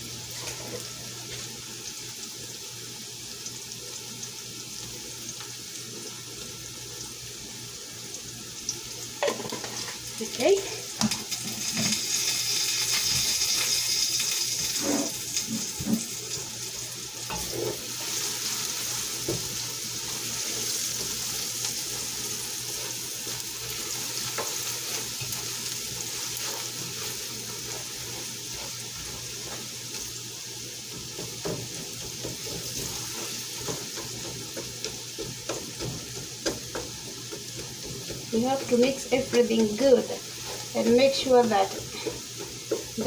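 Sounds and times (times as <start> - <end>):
onions sizzling in a pot: 0.0 - 43.0.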